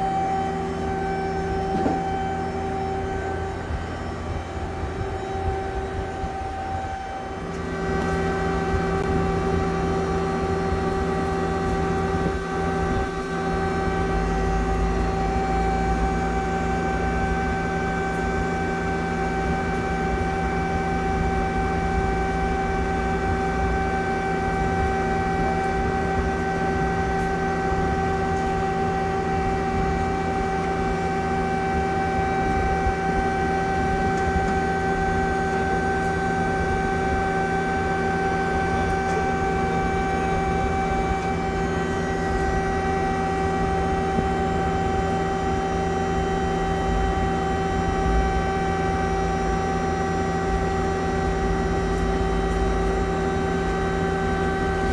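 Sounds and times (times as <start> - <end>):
lathe humming: 0.0 - 54.9.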